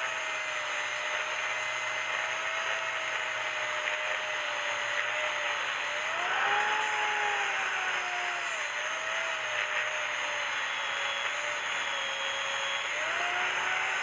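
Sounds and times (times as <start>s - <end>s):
electric power tool whining: 0.0s - 14.0s.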